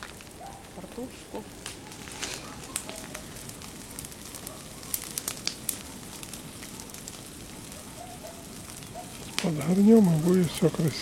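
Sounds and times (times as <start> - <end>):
bonfire hissing: 0.0 - 11.0
fire crackling and popping: 0.0 - 11.0.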